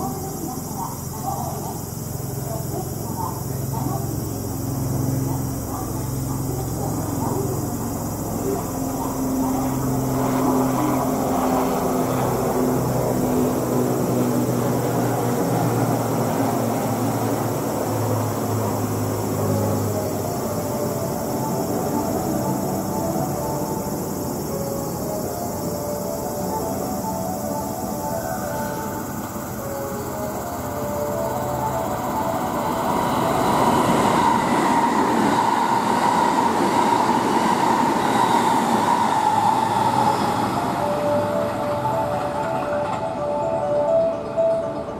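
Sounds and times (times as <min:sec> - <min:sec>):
electric train running slowly: 0:00.0 - 0:44.9.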